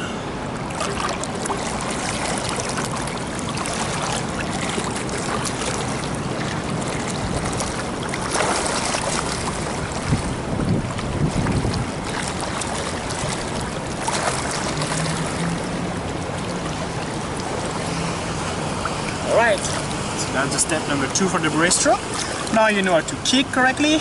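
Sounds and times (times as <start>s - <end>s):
pool water splashing: 0.0s - 24.0s.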